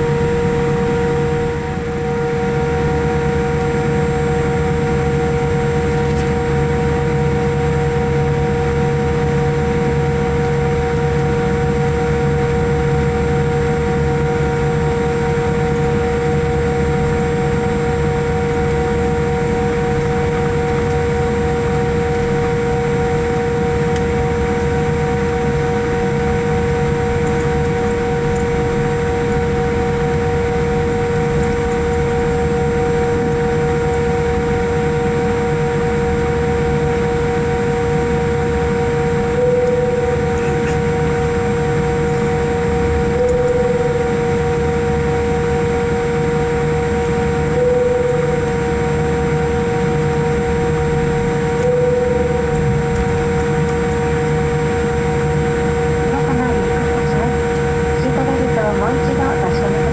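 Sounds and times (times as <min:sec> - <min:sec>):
aircraft cabin rumble and hiss: 0:00.0 - 0:59.9
jet engine whine: 0:00.0 - 0:59.9.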